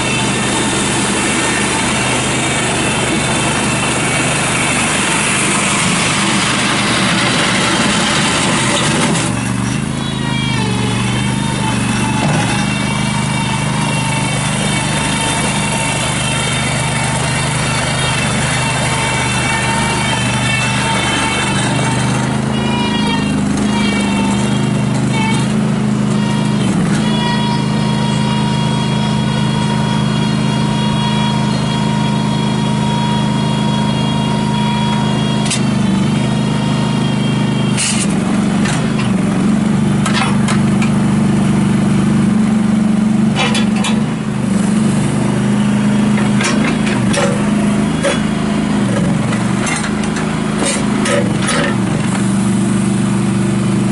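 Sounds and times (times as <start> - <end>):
gas engine running: 0.0 - 53.9.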